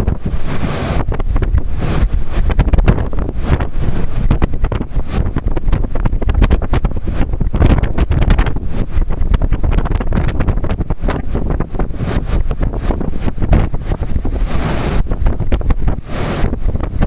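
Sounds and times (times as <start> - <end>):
gale wind buffeting microphone: 0.0 - 17.0.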